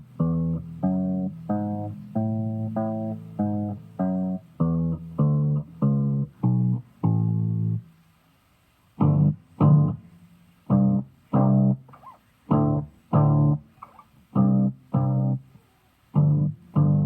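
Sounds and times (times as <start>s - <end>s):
plucked guitar notes: 0.0s - 7.9s, 9.0s - 17.0s.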